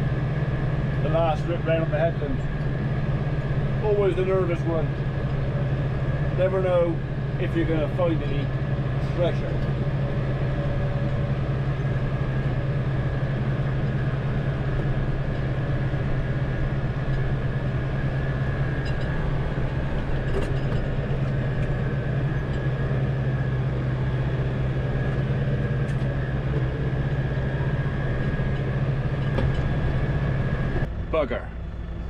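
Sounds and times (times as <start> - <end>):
faint steady whine: 0.0 - 32.0
tractor engine drone: 0.0 - 32.0.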